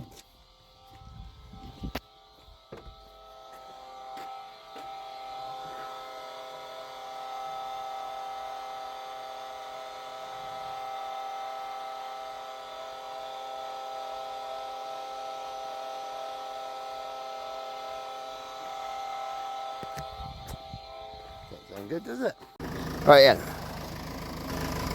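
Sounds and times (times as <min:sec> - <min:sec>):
steady electrical whine: 0:00.0 - 0:24.9.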